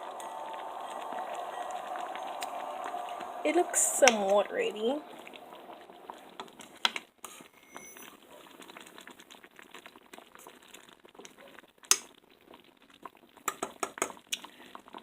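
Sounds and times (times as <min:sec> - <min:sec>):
pot simmering with bubbling: 0:00.0 - 0:15.0.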